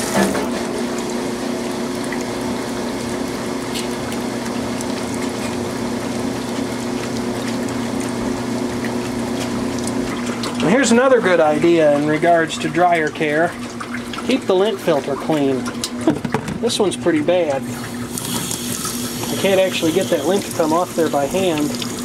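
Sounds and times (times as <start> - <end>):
steady electrical hum: 0.0 - 22.0
washing machine running: 0.0 - 22.0
water flowing in tub: 0.0 - 22.0.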